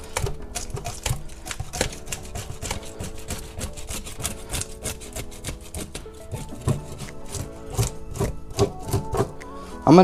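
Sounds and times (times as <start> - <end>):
fish scaler scraping scales: 0.0 - 9.7
background music: 0.0 - 10.0.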